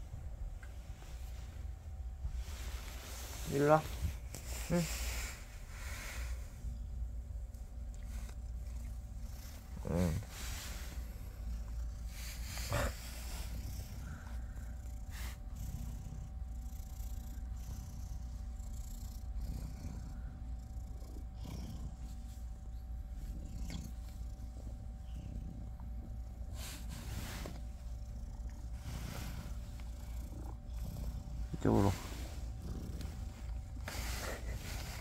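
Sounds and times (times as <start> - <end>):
cat purring: 0.1 - 35.0.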